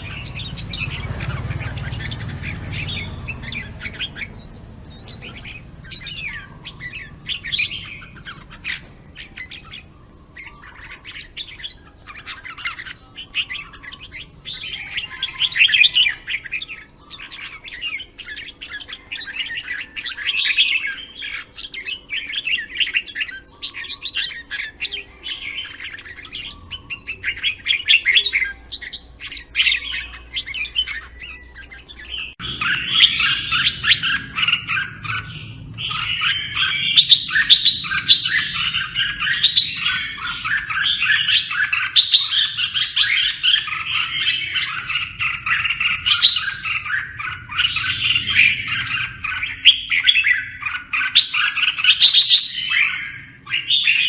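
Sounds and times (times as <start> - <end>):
bulbuls singing and chirping: 0.0 - 54.0.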